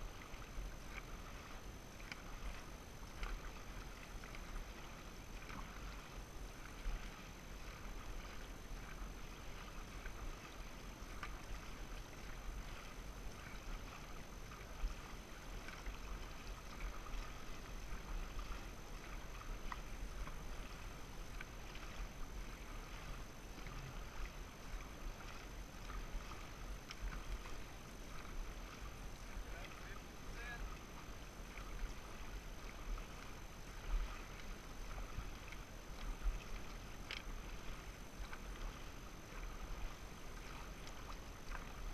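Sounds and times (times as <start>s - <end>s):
paddles splashing water: 0.0s - 41.9s.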